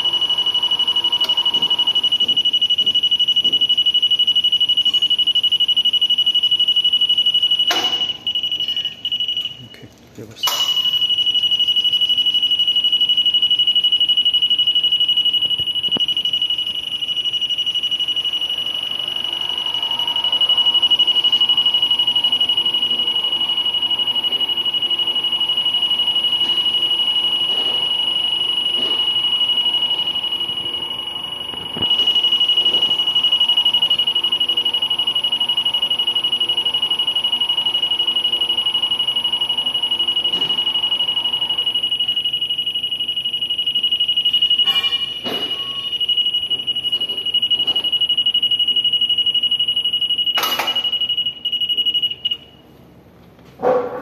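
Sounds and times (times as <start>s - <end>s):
high-pitched alarm buzzer: 0.0s - 9.6s, 10.4s - 52.5s.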